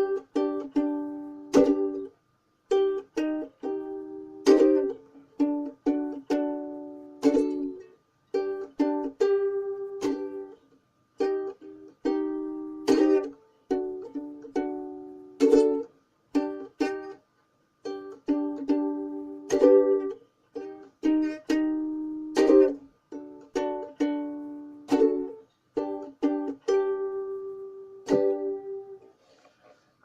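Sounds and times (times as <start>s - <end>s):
ukulele strumming chords: 0.0s - 17.2s, 17.8s - 29.1s.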